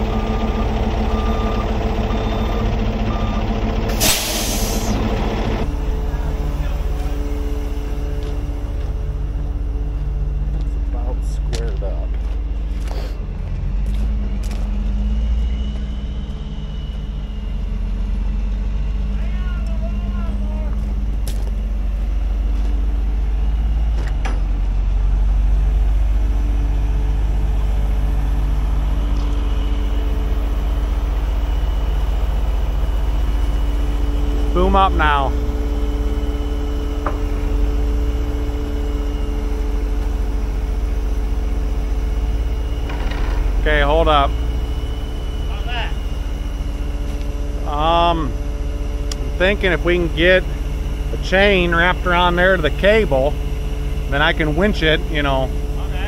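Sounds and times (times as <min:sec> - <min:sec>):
hydraulics raising boom: 0:00.0 - 0:56.0
truck diesel engine running: 0:00.0 - 0:56.0
faint high whine: 0:05.6 - 0:56.0.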